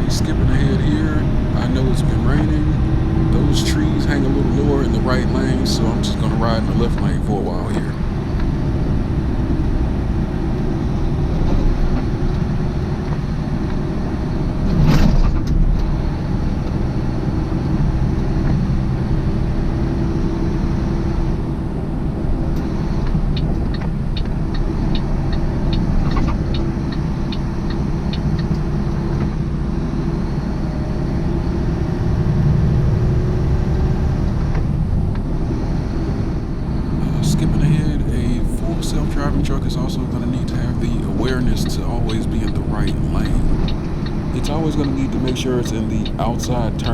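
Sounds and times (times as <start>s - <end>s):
truck engine and road rumble: 0.0s - 46.9s.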